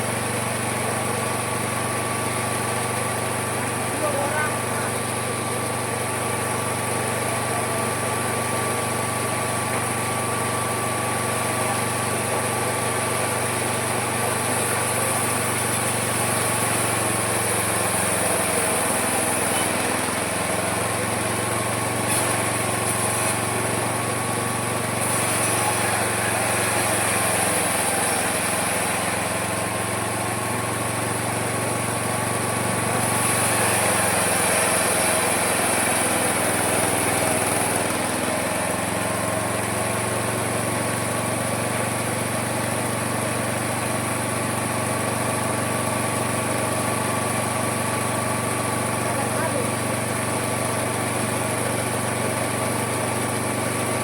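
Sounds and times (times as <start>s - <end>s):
sawmill sawing wood: 0.0s - 54.0s.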